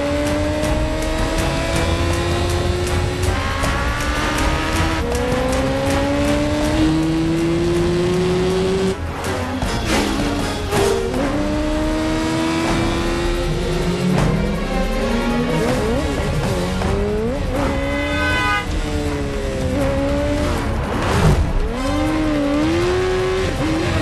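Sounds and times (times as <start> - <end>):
film score music: 0.0 - 24.0
motorcycle engines accelerating: 0.0 - 24.0.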